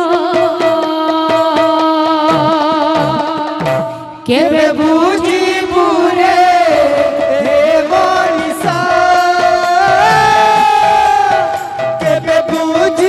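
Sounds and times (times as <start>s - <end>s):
barrel drums: 0.0s - 13.0s
woman singing into microphone: 0.0s - 13.0s.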